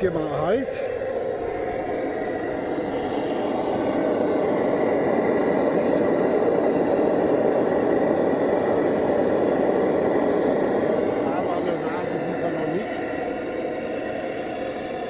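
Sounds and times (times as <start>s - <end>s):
blowtorch flame roaring: 0.0s - 15.0s.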